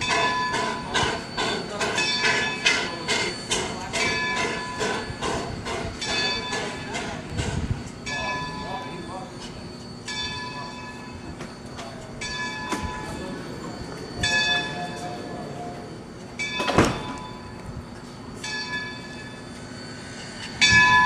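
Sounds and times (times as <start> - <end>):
locomotive bell ringing: 0.0 - 21.0.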